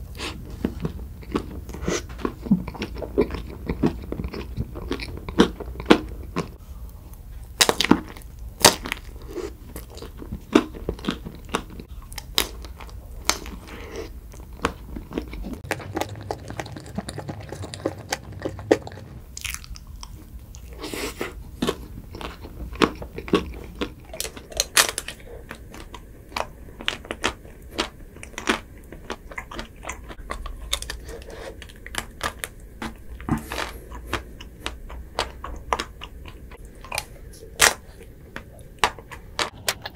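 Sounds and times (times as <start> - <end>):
chewing crunchy ice cream bars: 0.1 - 6.6, 7.5 - 39.9.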